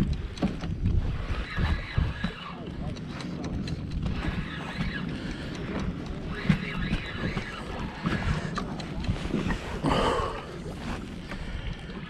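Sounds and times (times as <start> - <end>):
water slapping against kayak hull: 0.0 - 12.0
wind buffeting microphone: 0.0 - 12.0.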